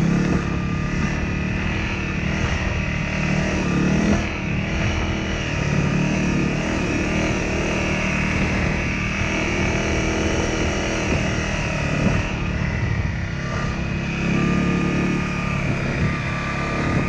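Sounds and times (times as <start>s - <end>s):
motorcycle engine running: 0.0s - 17.0s
wind and tyres on gravel: 0.0s - 17.0s.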